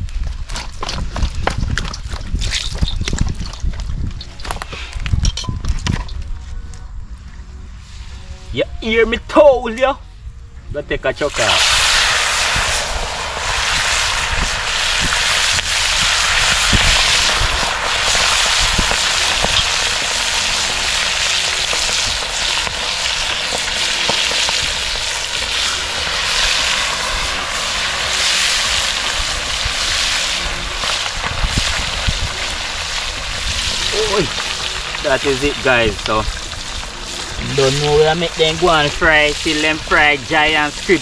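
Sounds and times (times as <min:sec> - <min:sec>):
fish deep-frying in hot oil: 0:00.0 - 0:06.2, 0:11.2 - 0:41.0.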